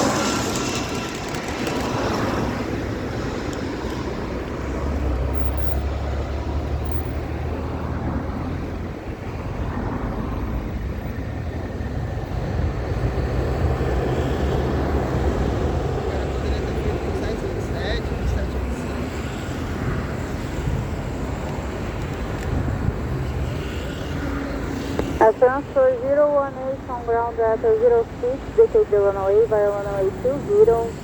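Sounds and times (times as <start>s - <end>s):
jet engine rumble: 0.0s - 31.0s.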